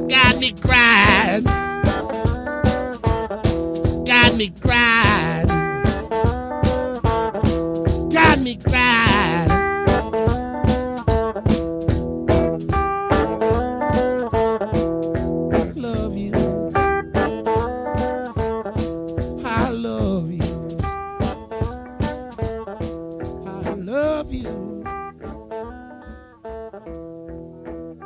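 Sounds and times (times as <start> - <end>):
steady drum beat: 0.0 - 25.4
electric guitar with bent notes: 0.0 - 28.0.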